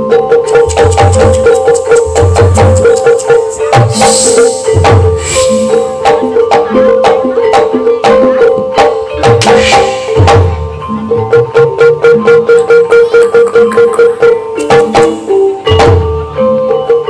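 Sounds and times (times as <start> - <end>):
metallophone tones: 0.1 - 7.2, 8.2 - 16.7.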